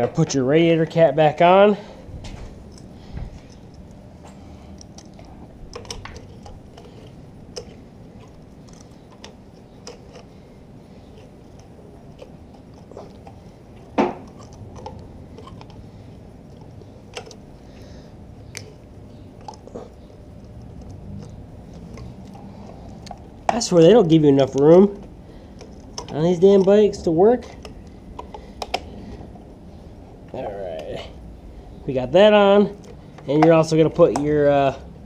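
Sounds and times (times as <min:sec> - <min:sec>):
clicks and rustles of handling parts: 0:02.2 - 0:29.6, 0:32.2 - 0:34.7.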